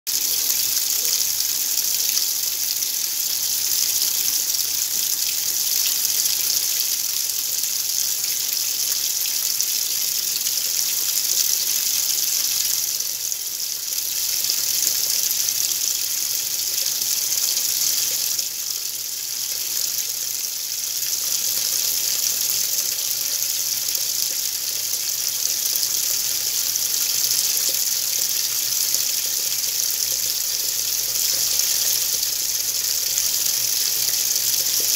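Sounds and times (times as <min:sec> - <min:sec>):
water running in washing machine: 0:00.1 - 0:34.9.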